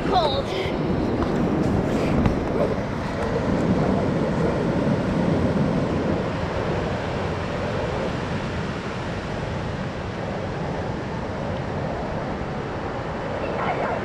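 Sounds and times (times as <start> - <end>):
ocean surf breaking: 0.0 - 14.0
wind on microphone: 0.0 - 14.0.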